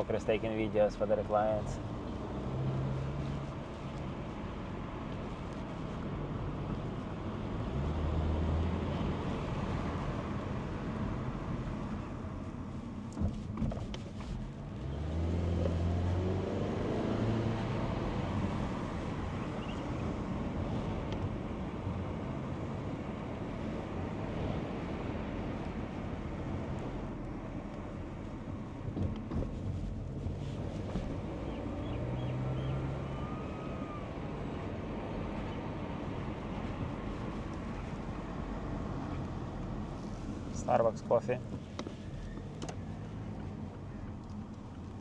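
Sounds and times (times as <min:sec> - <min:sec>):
car road and engine noise: 0:00.0 - 0:45.0
deeper engine hum: 0:00.0 - 0:45.0.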